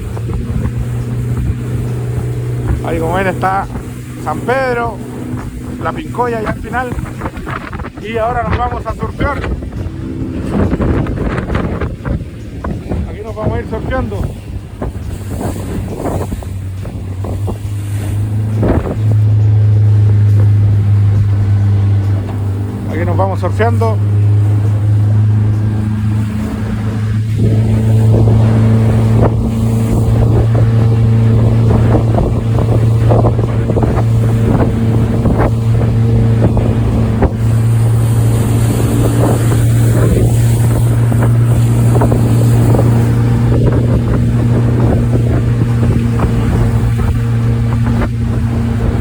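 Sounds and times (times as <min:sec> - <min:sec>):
outboard motor running: 0:00.0 - 0:49.0
water splashing against hull: 0:00.0 - 0:49.0
wind on microphone: 0:00.0 - 0:49.0.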